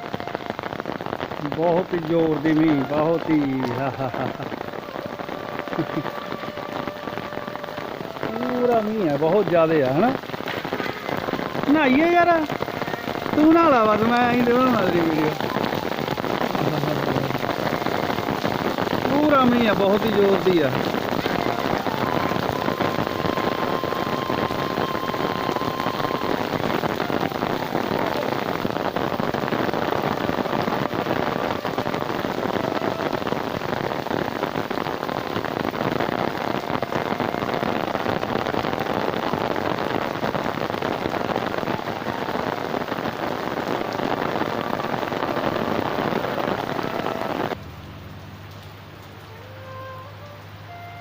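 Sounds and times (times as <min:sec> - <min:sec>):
heavy rain pouring: 0:00.0 - 0:51.0.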